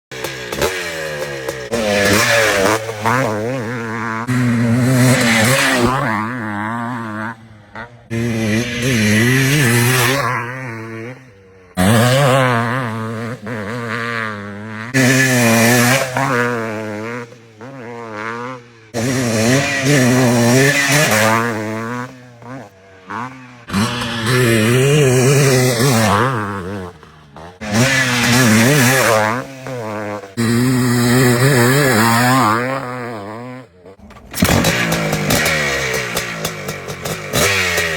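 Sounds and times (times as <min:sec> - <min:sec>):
motocross bike engines revving: 0:00.1 - 0:37.9.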